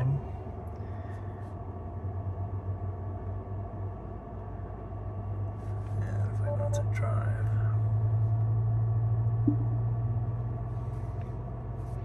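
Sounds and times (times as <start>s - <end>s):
car cooling fans humming: 0.0s - 12.0s.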